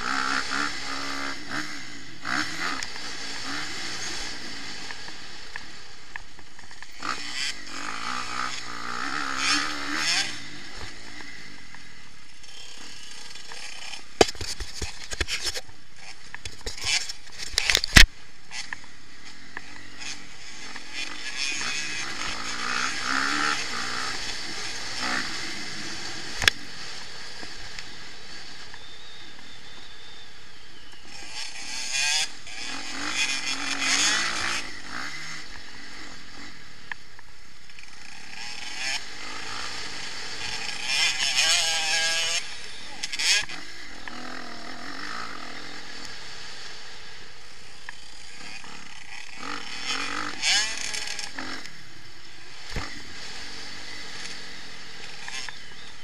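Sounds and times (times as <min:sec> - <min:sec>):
motorcycle engine revving: 0:00.0 - 0:56.0
steady rush of noise: 0:00.0 - 0:56.0.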